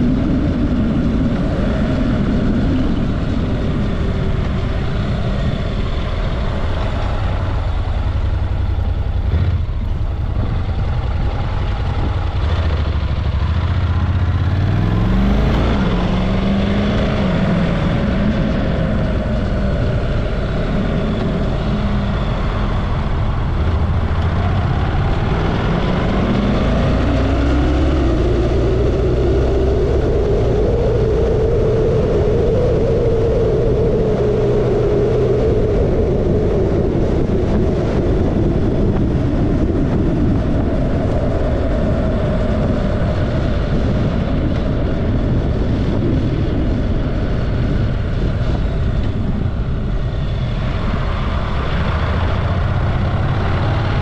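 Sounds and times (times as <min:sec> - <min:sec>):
motorcycle engine accelerating: 0:00.0 - 0:54.0
wind rushing: 0:00.0 - 0:54.0.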